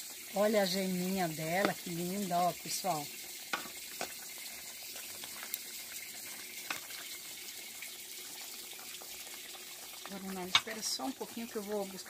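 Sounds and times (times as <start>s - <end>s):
stew bubbling in a metal pan: 0.0s - 12.0s.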